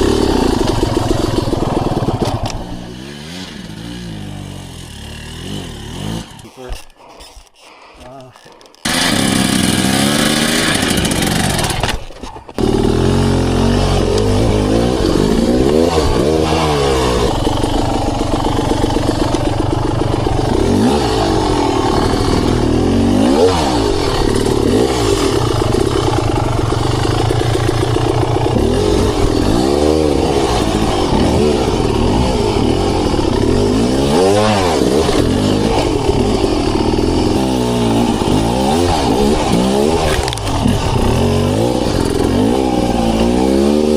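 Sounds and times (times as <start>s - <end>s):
dirt bike engine revving: 0.0s - 6.6s, 8.9s - 43.9s.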